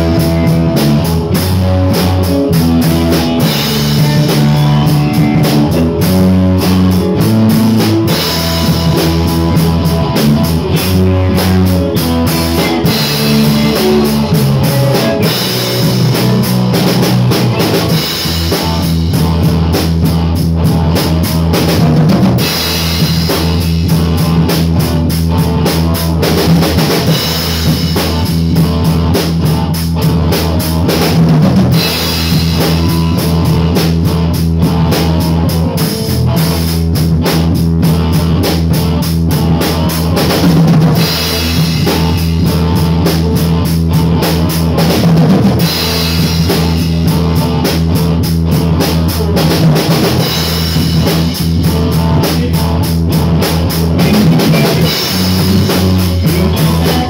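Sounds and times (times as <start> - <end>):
drum kit with cymbals: 0.0 - 57.0
rock band playing live: 0.0 - 57.0.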